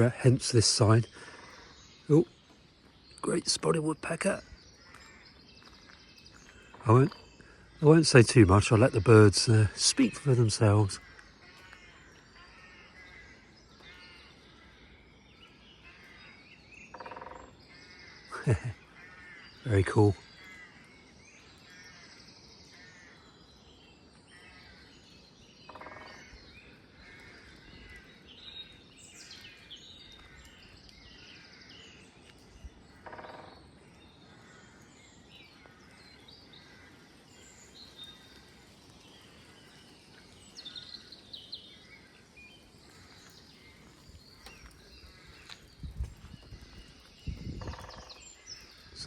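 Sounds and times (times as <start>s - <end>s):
rooks cawing: 0.0s - 2.2s, 4.1s - 49.0s
songbirds singing and chirping: 0.0s - 49.0s.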